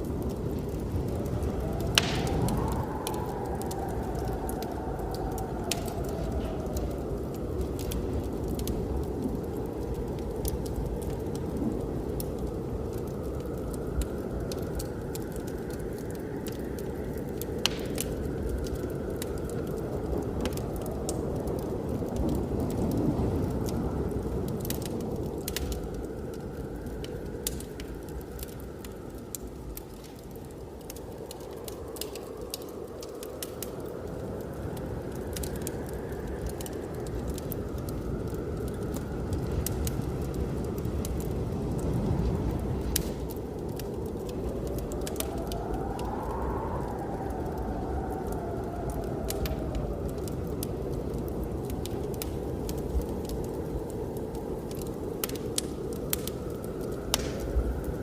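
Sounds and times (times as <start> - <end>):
blizzard wind rushing: 0.0 - 58.0
wood fire crackling and popping: 0.0 - 58.0.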